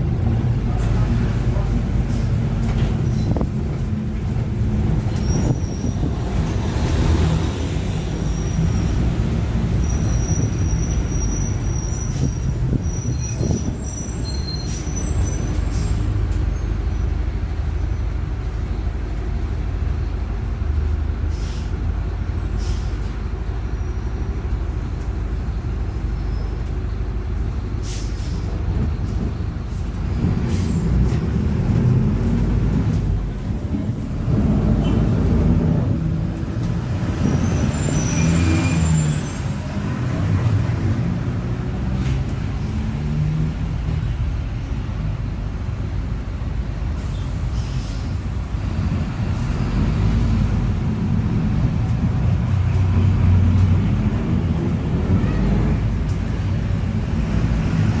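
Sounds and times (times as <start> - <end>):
bus drivetrain rumble: 0.0 - 58.0.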